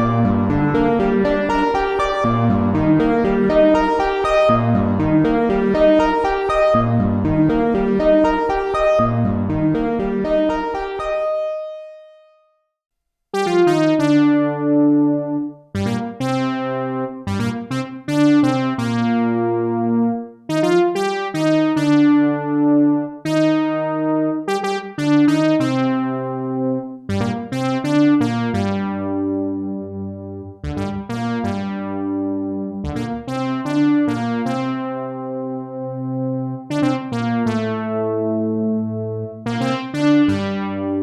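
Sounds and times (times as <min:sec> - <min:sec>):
synthesizer chords with reverb: 0:00.0 - 0:12.6, 0:13.3 - 0:41.0.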